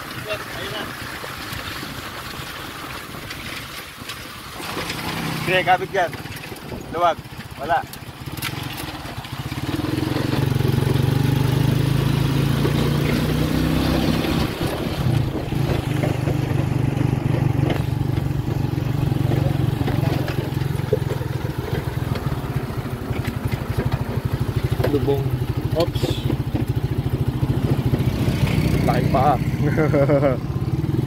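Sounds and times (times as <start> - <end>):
motorcycle engine droning: 4.6 - 31.0.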